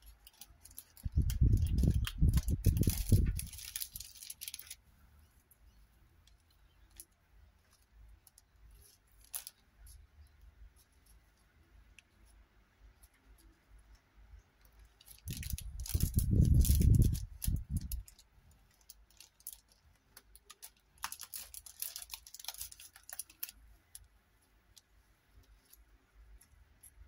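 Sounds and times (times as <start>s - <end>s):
handling paper and wood: 0.0s - 12.4s, 14.6s - 25.8s
small clicks and rustles: 0.0s - 27.0s.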